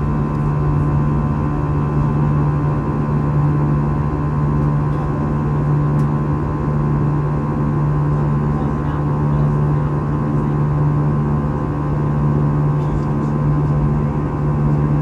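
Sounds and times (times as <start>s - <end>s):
airliner cabin drone: 0.0s - 15.0s.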